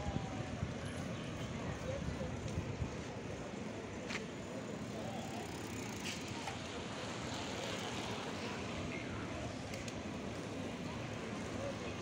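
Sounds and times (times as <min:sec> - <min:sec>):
bicycles rolling on asphalt: 0:00.0 - 0:12.0.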